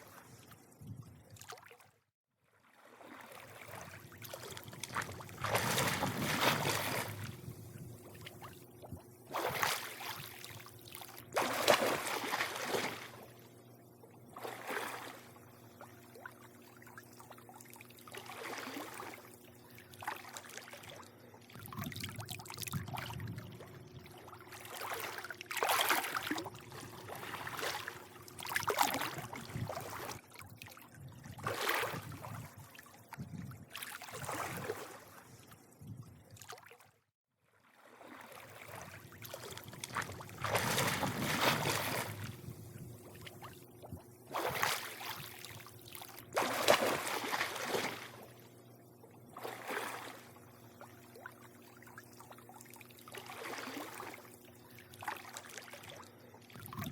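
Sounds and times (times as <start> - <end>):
pool water lapping: 0.0 - 56.9
faint steady hum: 2.8 - 36.8, 37.8 - 56.9.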